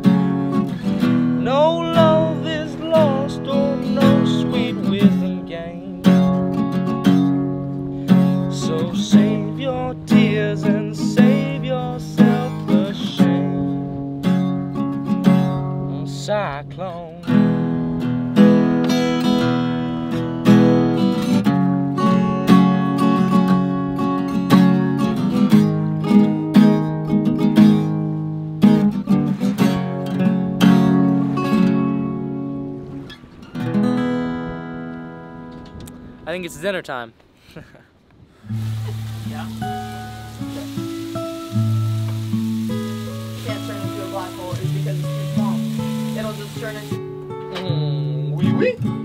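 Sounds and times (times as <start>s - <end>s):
acoustic guitar picking and strumming: 0.0s - 37.4s, 38.2s - 49.0s.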